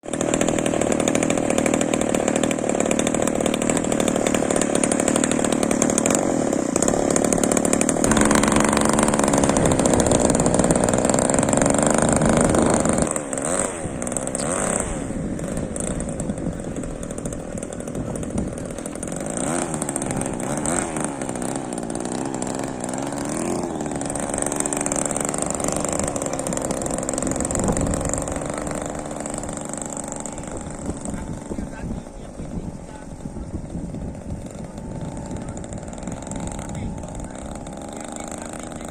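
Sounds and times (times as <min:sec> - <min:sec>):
model plane engine running: 0:00.0 - 0:38.9.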